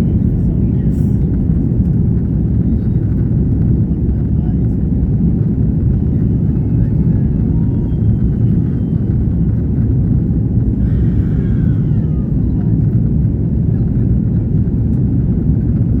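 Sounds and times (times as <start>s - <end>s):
jet airliner taking off: 0.1s - 16.0s.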